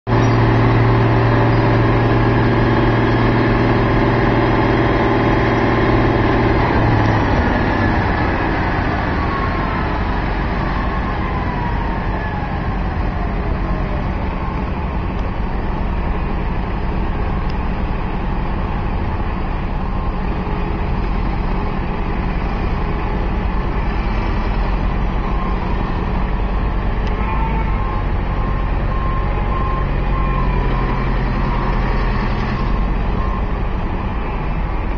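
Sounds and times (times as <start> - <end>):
reversing beeper: 0.1 - 16.3, 19.7 - 34.9
heavy machinery engine running: 0.1 - 34.9.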